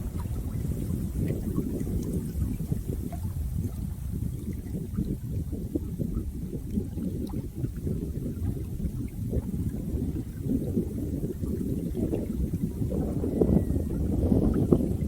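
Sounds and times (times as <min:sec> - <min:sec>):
water rushing and gurgling: 0:00.0 - 0:15.0.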